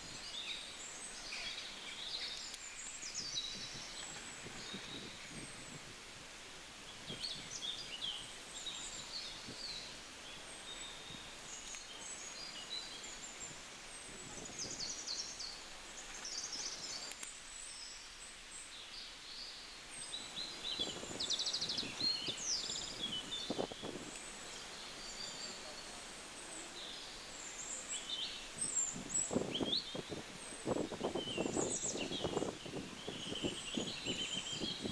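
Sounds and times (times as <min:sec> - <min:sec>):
outdoor background hiss: 0:00.0 - 0:34.9
small birds chirping and trilling: 0:00.1 - 0:05.8, 0:06.9 - 0:34.9.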